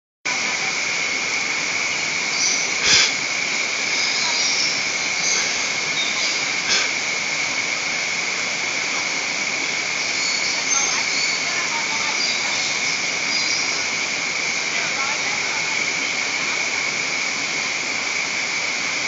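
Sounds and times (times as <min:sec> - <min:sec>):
high insect drone: 0:00.3 - 0:19.0
water rushing over rocks: 0:00.3 - 0:19.0.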